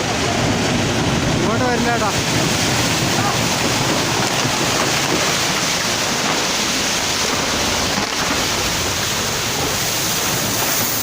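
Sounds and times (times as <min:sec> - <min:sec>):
flowing floodwater: 0:00.0 - 0:11.0
heavy rain: 0:00.0 - 0:11.0.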